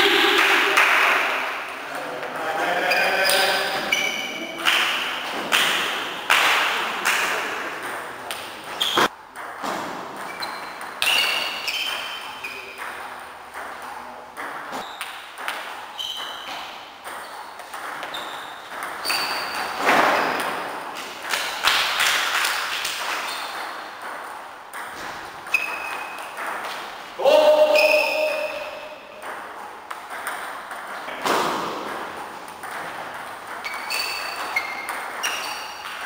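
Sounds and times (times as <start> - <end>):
table tennis balls clicking: 4.0 - 27.0, 29.1 - 36.0.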